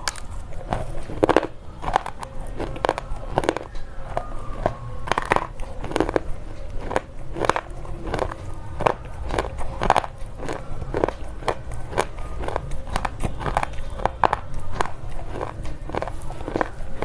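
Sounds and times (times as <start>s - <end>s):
slate pencils crunching: 0.0s - 17.0s.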